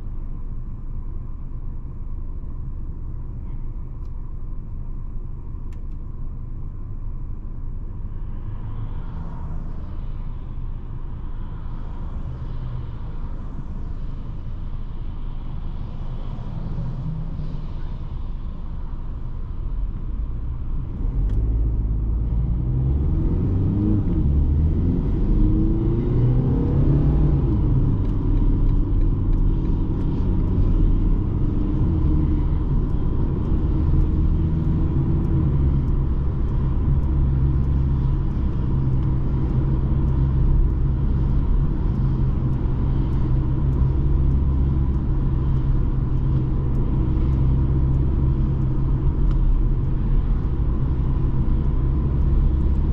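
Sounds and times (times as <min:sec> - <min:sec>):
diesel car engine: 0:00.0 - 0:52.9.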